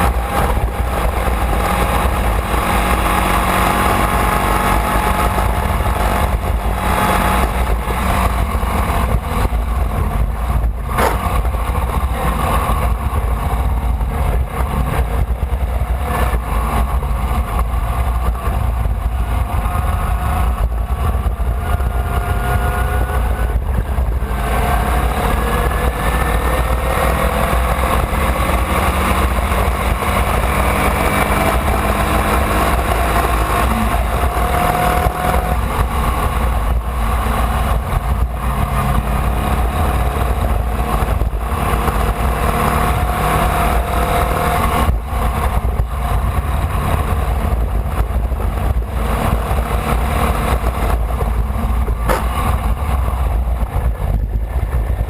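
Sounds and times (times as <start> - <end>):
race car engine at speed: 0.0 - 55.0.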